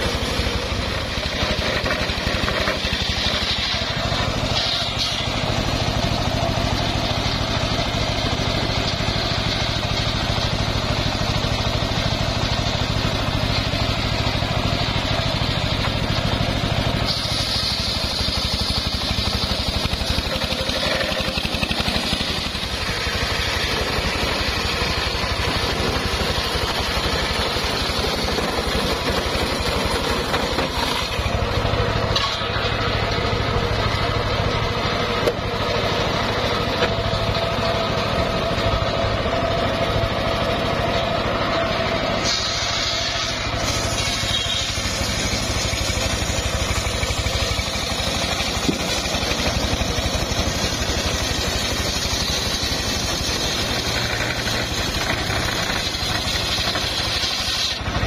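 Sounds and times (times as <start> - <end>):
saw blade cutting wood: 0.0 - 58.0
sawmill engine running: 0.0 - 58.0.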